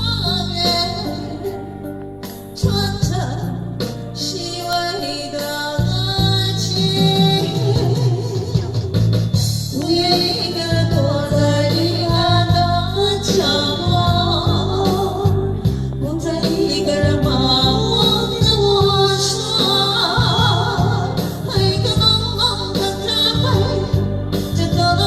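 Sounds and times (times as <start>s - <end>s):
instrumental accompaniment: 0.0s - 25.0s
person singing: 0.0s - 25.0s.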